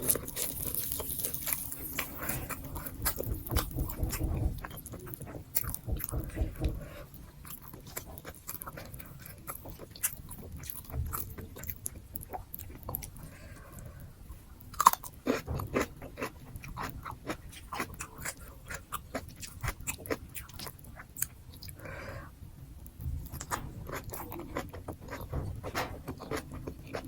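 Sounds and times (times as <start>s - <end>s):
person chewing food: 0.0s - 14.0s, 14.6s - 21.9s, 23.0s - 27.0s.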